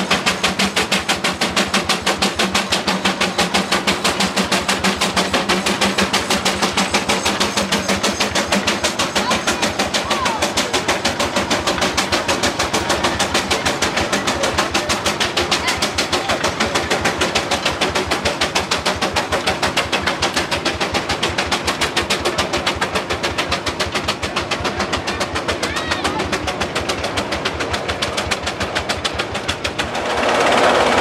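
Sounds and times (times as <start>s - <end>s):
loud steady engine noise: 0.0s - 31.0s
tractor engine exhaust beat: 0.0s - 31.0s.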